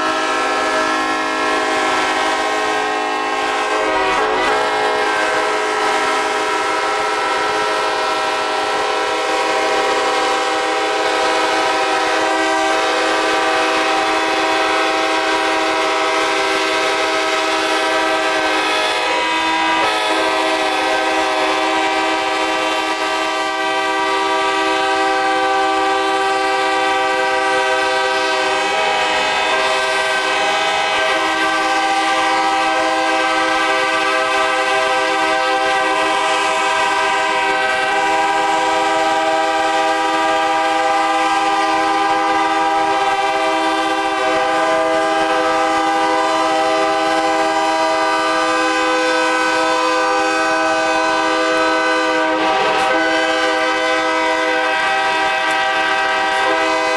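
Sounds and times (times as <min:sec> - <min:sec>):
locomotive air horns: 0:00.0 - 0:56.9.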